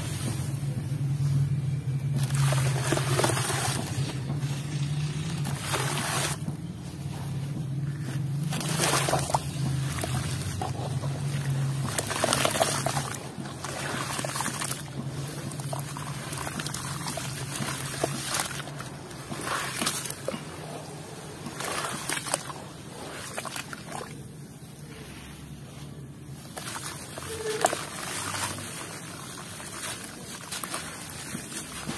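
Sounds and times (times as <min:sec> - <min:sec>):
hands sloshing muddy water: 0:02.2 - 0:07.0, 0:07.9 - 0:24.3, 0:26.4 - 0:31.9.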